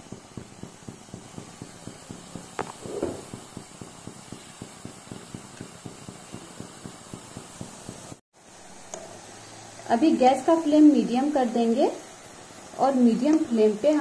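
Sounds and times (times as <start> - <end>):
batter frying with crackling pops: 0.0 - 14.0
faint sizzle: 0.0 - 14.0.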